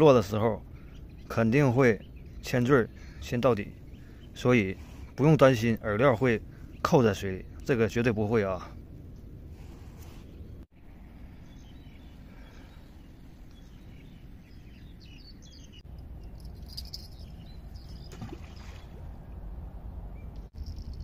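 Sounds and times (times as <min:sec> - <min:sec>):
faint birds: 0:00.0 - 0:21.0.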